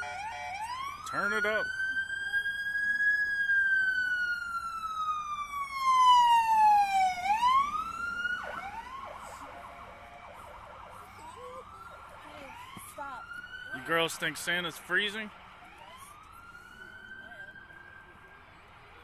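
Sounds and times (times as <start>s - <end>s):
faint wavering siren: 0.0s - 19.0s
fire truck siren wailing: 0.0s - 19.0s.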